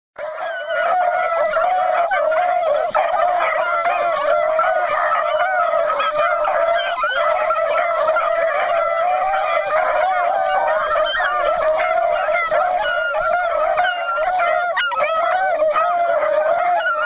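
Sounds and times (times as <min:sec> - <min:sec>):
dogs baying and howling: 0:00.2 - 0:17.0.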